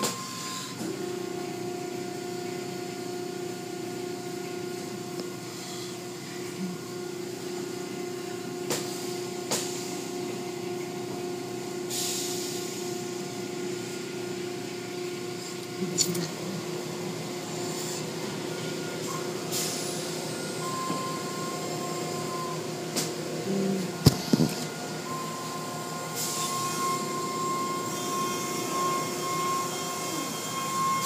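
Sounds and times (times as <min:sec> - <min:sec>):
car wash motor hum: 0:00.0 - 0:31.0.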